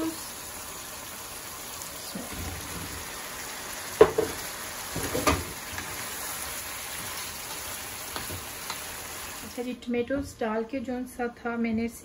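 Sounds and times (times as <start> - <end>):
chicken sizzling in a wok: 0.0 - 9.6.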